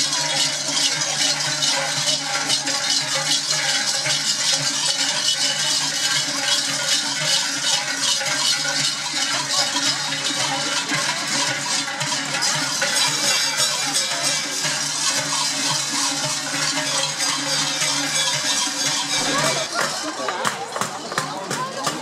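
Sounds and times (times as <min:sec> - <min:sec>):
large bells jangling and clanging: 0:00.0 - 0:22.0.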